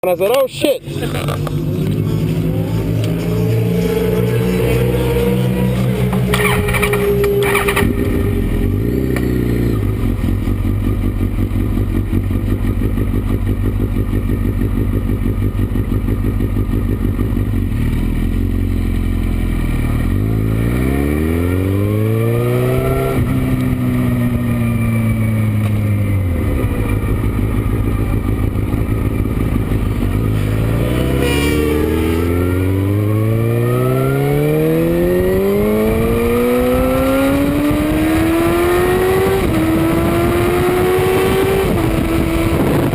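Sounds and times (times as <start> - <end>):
motorcycle engine revving: 0.7 - 42.9.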